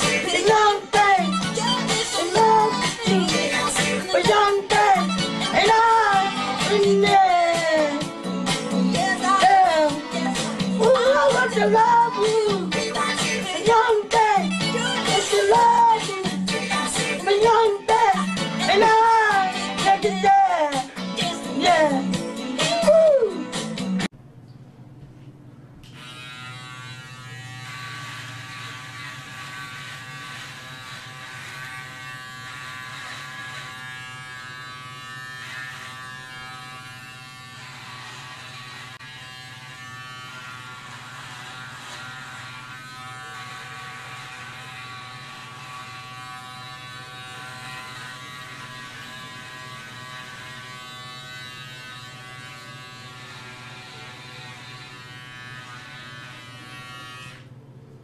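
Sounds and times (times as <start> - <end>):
tattoo machine buzzing: 0.0 - 22.6, 25.9 - 57.5.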